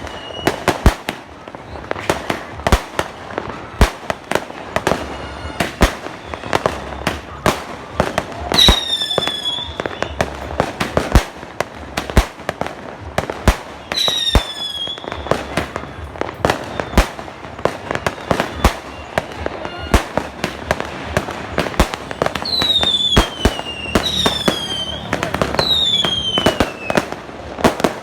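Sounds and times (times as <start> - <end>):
falling firework whistle: 0.0 - 11.2, 13.3 - 28.0
fireworks bangs: 0.0 - 28.0.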